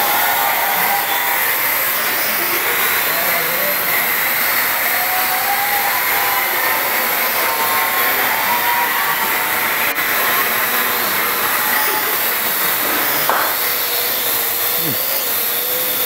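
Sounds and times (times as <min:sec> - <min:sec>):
quadcopter rotors whirring: 0:00.0 - 0:16.0.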